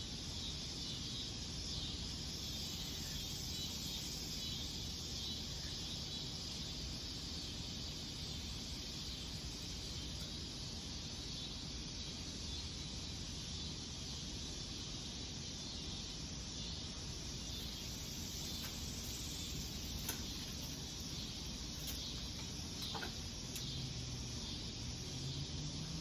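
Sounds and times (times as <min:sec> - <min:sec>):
low background hiss: 0:00.0 - 0:25.8.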